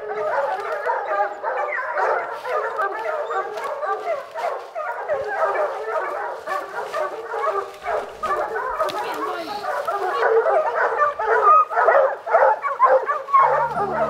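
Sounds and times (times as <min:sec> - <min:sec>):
pack of hounds baying: 0:00.0 - 0:14.0.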